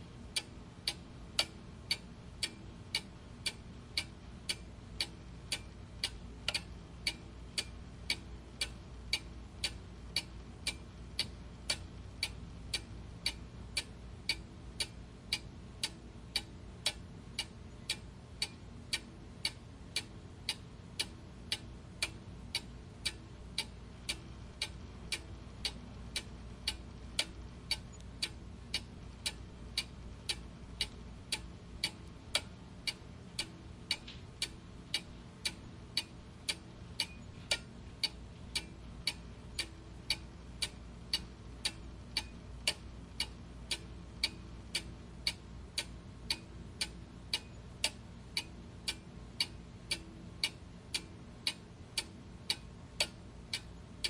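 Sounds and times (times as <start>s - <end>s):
faint low hum: 0.0s - 54.0s
clock ticking: 0.3s - 54.0s.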